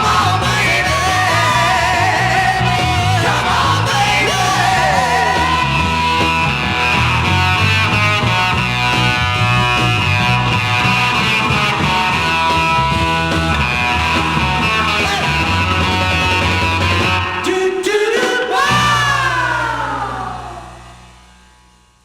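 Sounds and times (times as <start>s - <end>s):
rock band instrumental: 0.0s - 22.0s.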